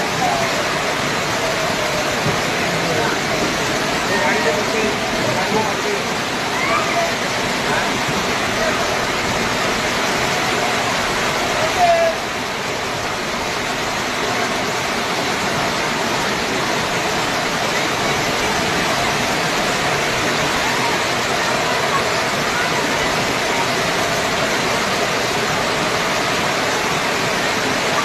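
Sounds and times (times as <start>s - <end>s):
very heavy rain pouring: 0.0s - 28.0s.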